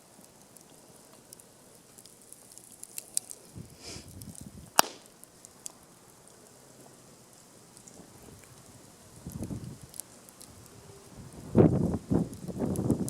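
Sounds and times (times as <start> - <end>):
rustle: 0.0 - 13.0
wood fire crackling and popping: 0.0 - 13.0.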